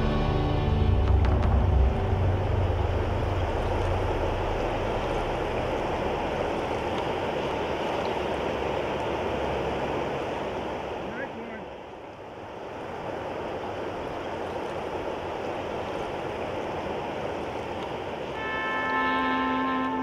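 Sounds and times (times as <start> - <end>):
flowing river water: 0.0 - 20.0.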